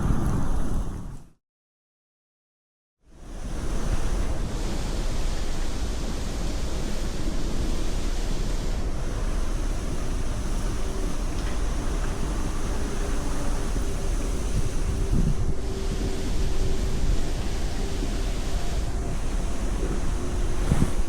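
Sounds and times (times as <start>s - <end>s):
strong wind buffeting microphone: 0.0s - 1.4s, 3.3s - 21.0s.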